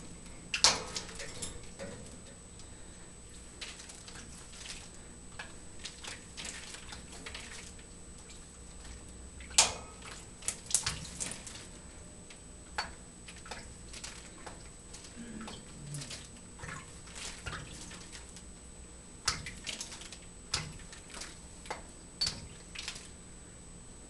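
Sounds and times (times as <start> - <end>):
parrot splashing in water dish: 0.5 - 2.3, 3.3 - 11.8, 12.8 - 18.6, 19.2 - 23.2.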